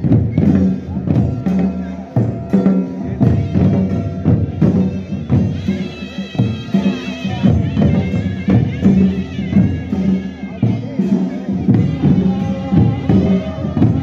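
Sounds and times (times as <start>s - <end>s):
drums beating steady rhythm: 0.0s - 14.0s.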